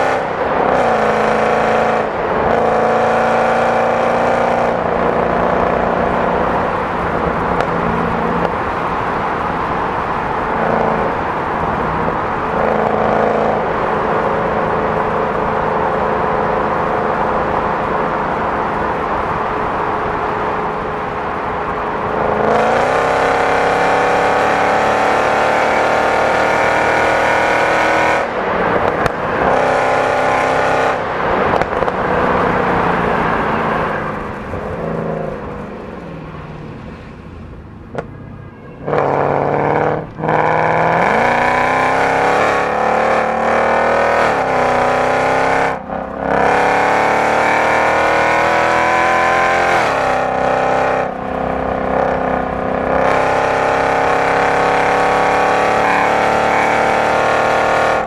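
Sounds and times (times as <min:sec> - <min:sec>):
car engine revving at speed: 0:00.0 - 0:38.2, 0:38.8 - 0:58.0.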